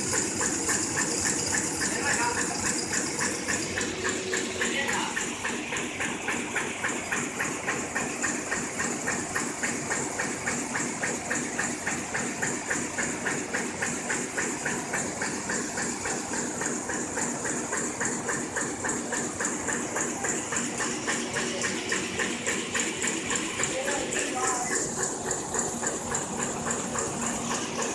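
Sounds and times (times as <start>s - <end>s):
printing press clatter: 0.0s - 27.9s.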